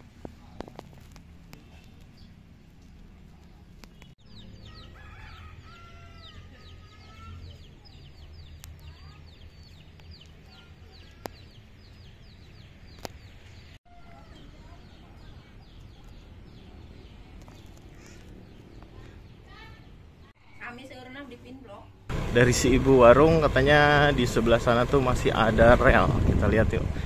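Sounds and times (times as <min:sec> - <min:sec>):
birds chirping: 0:01.4 - 0:27.0.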